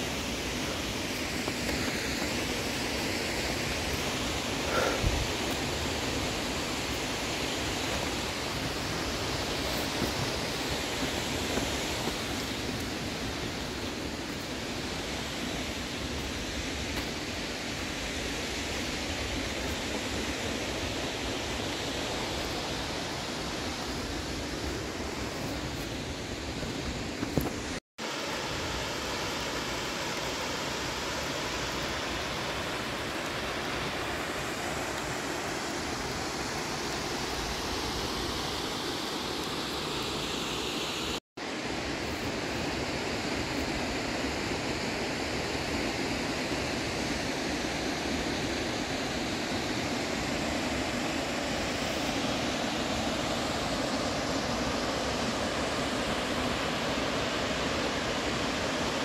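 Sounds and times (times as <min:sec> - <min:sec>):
rushing stream water: 0:00.0 - 0:59.0.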